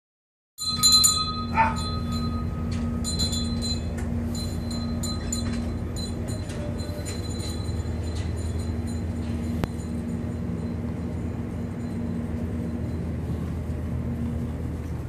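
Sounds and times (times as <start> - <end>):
ship machinery drone: 0.6 - 15.0.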